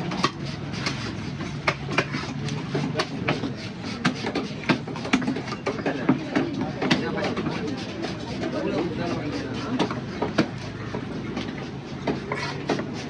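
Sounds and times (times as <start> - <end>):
knife chopping fish: 0.0 - 13.0.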